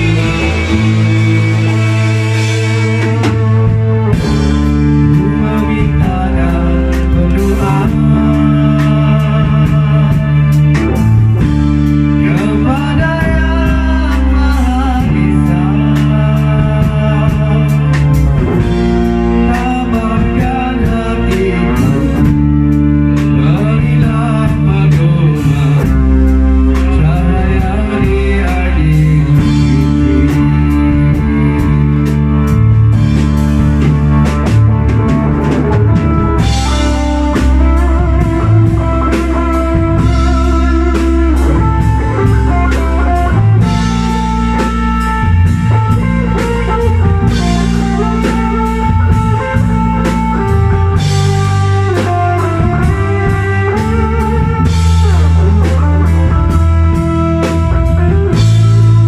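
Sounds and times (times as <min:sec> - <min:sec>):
drum kit with cymbal crashes: 0:00.0 - 0:59.0
electric bass: 0:00.0 - 0:59.0
electric guitar melody: 0:00.0 - 0:59.0.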